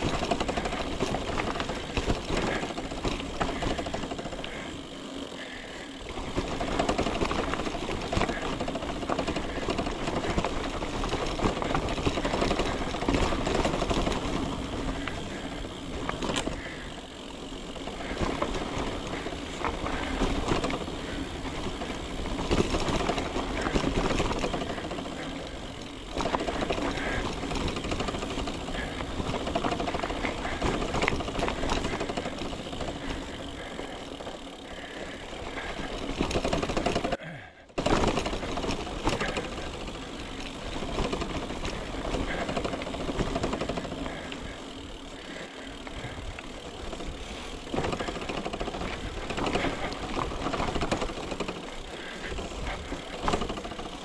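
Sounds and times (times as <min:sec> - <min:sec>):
tyres crunching over dirt: 0:00.0 - 0:37.2, 0:37.8 - 0:54.0
bike rattling over bumps: 0:00.0 - 0:54.0
freewheel ticking: 0:00.0 - 0:54.0.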